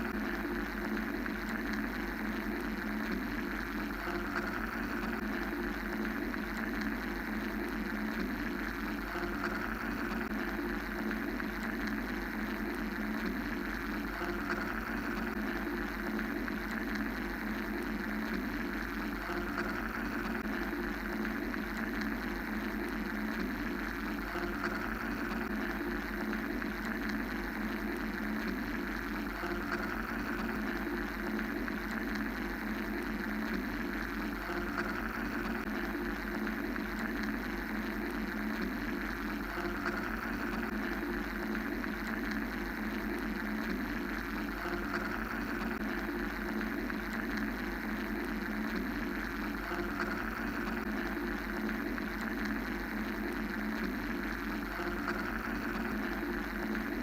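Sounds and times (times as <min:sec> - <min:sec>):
mechanical white-noise drone: 0:00.0 - 0:57.0.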